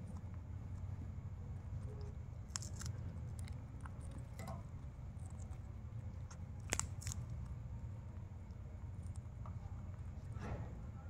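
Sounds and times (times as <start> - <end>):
parakeet beak crunching chilli: 0.0 - 10.2
steady low hum: 0.0 - 11.0.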